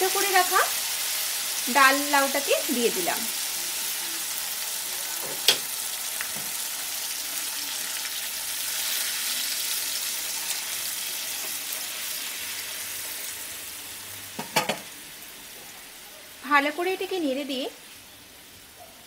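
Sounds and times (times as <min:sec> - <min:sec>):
oil and paste sizzling in pan: 0:00.0 - 0:18.8.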